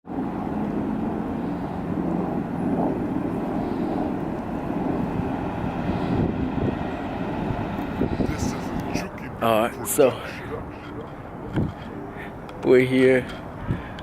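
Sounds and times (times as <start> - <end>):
distant traffic rumble: 0.1 - 14.0.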